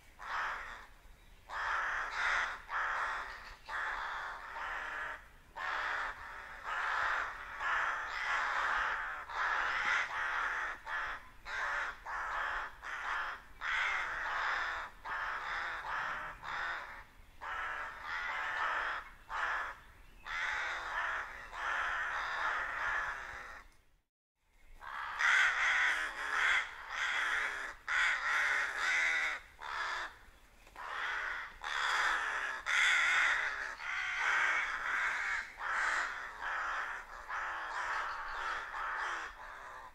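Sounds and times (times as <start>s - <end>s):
rooks cawing: 0.2s - 23.7s, 24.8s - 39.9s.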